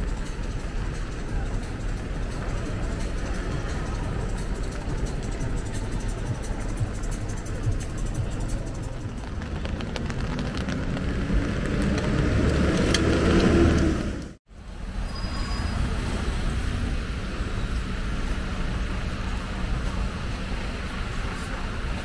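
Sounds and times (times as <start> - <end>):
outdoor background rumble: 0.0 - 22.0
street traffic noise: 0.0 - 22.0.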